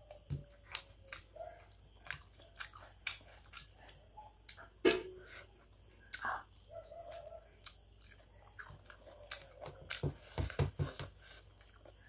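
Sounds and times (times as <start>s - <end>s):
person chewing with wet smacks: 0.0s - 5.4s, 7.1s - 12.0s.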